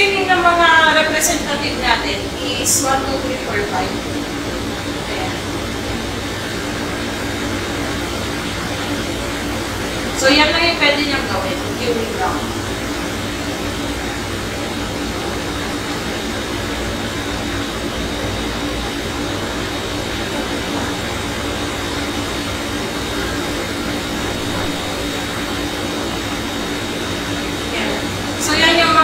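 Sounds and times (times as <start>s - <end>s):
constant low hum: 0.0s - 29.0s
steady hiss: 0.0s - 29.0s.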